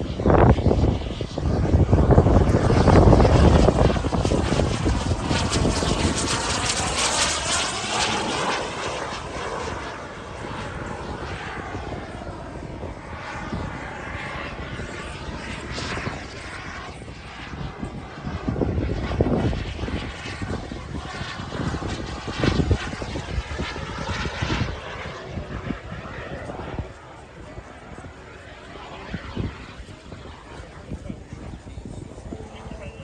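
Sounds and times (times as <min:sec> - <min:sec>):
model airplane engine: 0:00.0 - 0:33.0.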